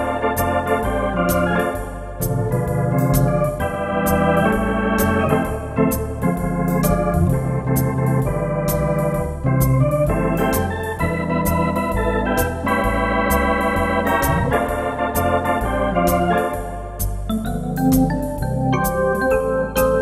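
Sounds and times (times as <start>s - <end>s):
electronic organ swing music: 0.0s - 20.0s
pedal bass line: 0.0s - 20.0s.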